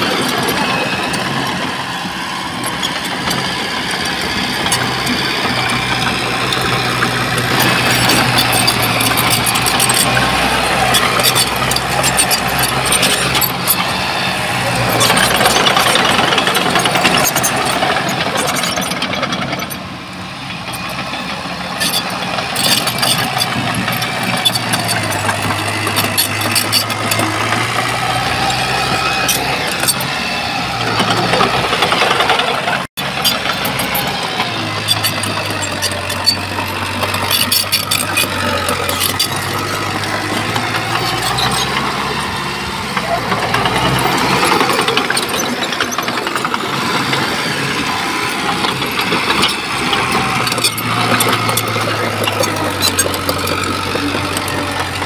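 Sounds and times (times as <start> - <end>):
bulldozer diesel engine running: 0.0 - 55.0
metallic clanking and rattling: 2.6 - 14.0, 14.6 - 19.8, 20.6 - 30.2, 30.8 - 55.0.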